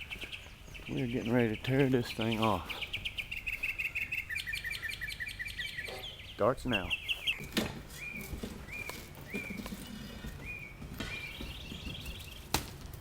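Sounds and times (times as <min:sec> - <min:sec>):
bird chirping and trilling: 0:00.0 - 0:12.5.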